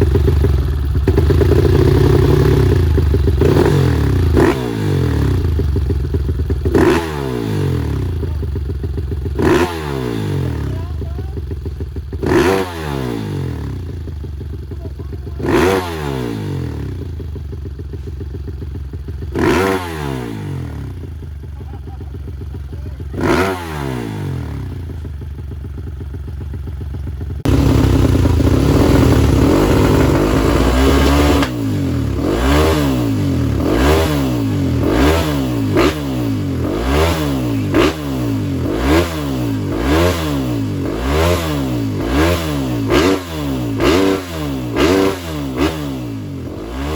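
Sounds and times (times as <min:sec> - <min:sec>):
motorcycle engine idling and revving: 0:00.0 - 0:46.9.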